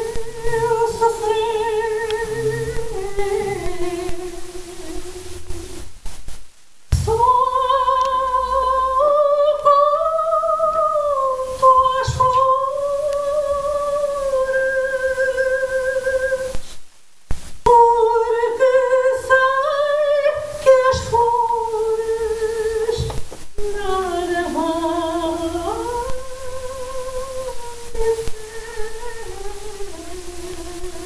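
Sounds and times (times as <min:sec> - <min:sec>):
woman singing long notes: 0:00.0 - 0:05.8, 0:07.0 - 0:16.6, 0:17.6 - 0:31.0.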